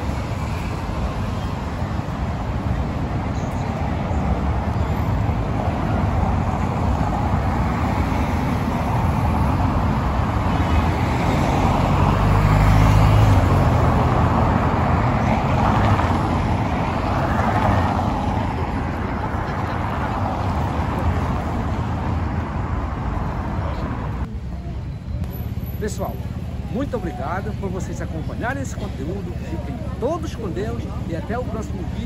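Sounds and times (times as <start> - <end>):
cars driving on cobbles: 0.0 - 32.0
vehicle engine rumble: 0.0 - 32.0.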